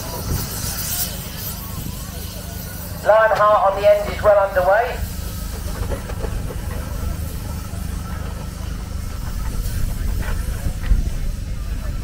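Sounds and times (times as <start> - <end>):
faint steam hiss: 0.0 - 12.0
steam traction engines rumbling: 0.0 - 12.0.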